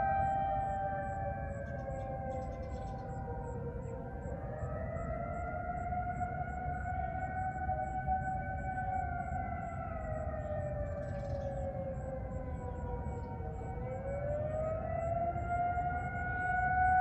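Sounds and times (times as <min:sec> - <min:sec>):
siren wailing: 0:00.0 - 0:17.0
sirens holding steady tones: 0:00.0 - 0:17.0.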